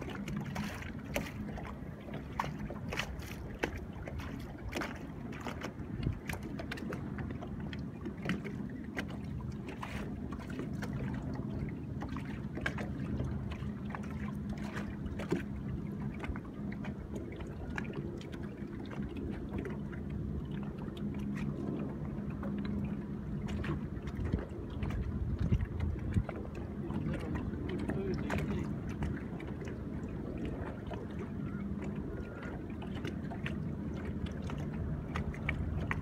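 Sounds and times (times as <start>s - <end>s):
water lapping against boat hull: 0.0s - 36.0s.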